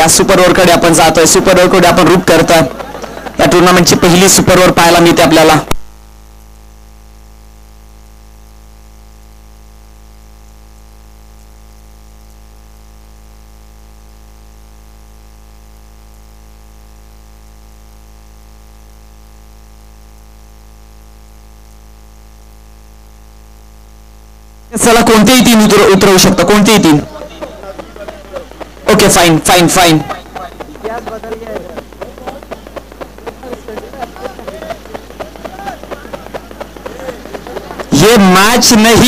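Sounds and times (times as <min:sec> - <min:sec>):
electrical hum and buzz: 0:00.0 - 0:39.0.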